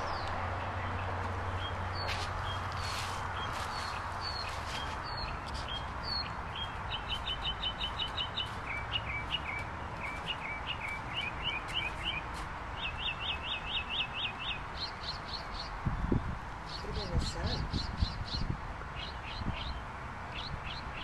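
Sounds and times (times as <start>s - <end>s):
low outdoor background: 0.0s - 21.0s.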